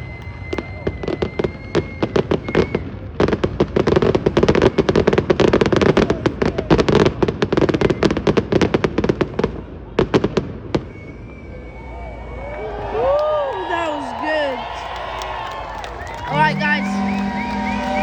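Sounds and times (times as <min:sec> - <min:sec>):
fireworks cracks and bangs: 0:00.0 - 0:11.6, 0:14.6 - 0:18.0.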